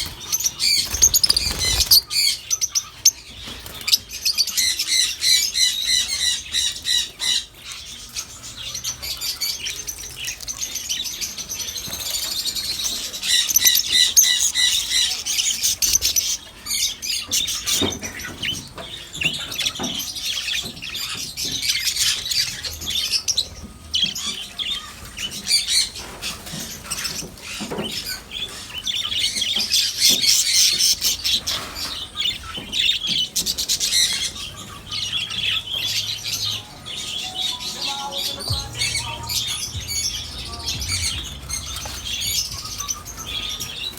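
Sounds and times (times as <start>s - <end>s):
cage birds chirping: 0.0s - 43.9s.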